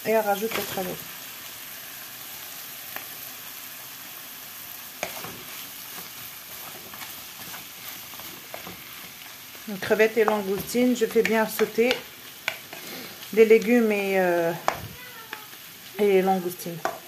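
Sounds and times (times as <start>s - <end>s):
prawns sizzling in a frying pan: 0.0s - 17.0s.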